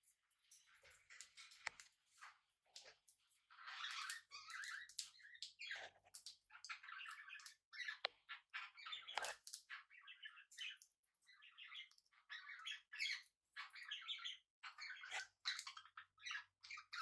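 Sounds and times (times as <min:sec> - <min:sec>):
parrots chirping and chattering: 0:00.5 - 0:17.0.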